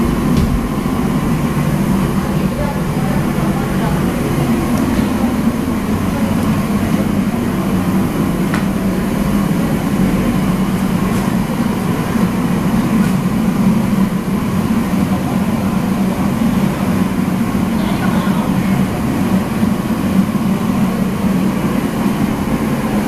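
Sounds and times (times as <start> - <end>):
kitchen equipment roaring: 0.0 - 23.0.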